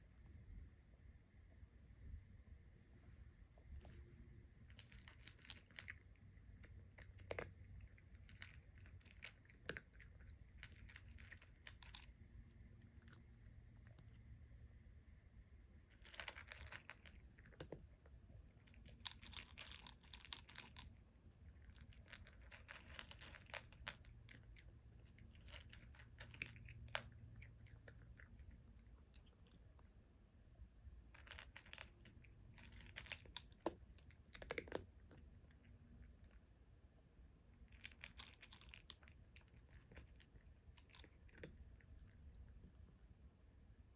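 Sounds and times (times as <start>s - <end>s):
cat chewing and crunching food: 3.7s - 14.8s, 15.5s - 43.9s.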